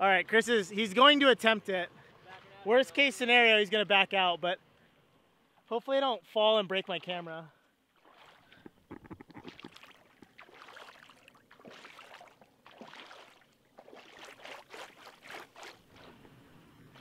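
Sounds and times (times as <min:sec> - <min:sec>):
wading in shallow water: 0:00.3 - 0:17.0.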